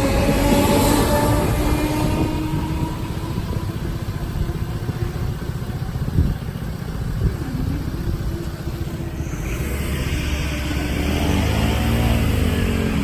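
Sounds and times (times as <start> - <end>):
low running tone: 0.0 - 12.6
vehicle engines rumbling: 0.0 - 13.0.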